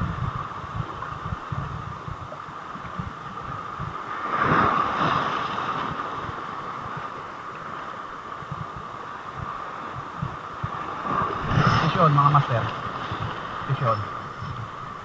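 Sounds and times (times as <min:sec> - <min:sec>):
waves washing against hull: 0:00.0 - 0:15.0
wind buffeting microphone: 0:00.0 - 0:15.0.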